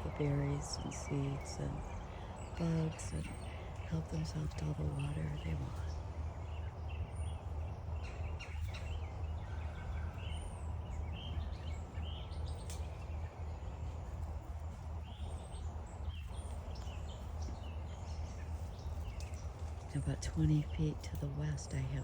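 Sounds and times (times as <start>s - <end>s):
birds chirping and calling: 0.0s - 22.0s
steady low rumble: 0.0s - 22.0s.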